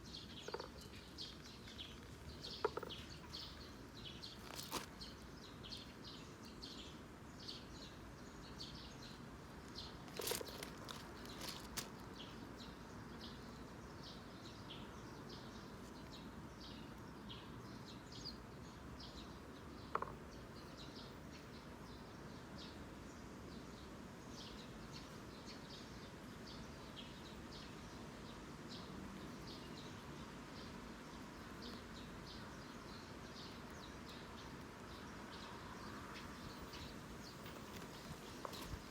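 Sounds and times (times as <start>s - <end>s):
sparrows chirping: 0.0s - 38.9s
steady background hiss: 0.0s - 38.9s.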